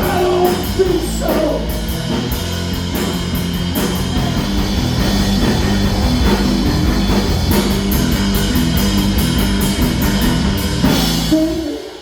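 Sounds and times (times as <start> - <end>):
bass guitar: 0.0 - 12.0
distorted electric guitar: 0.0 - 12.0
drum kit with cymbal crashes: 0.0 - 12.0.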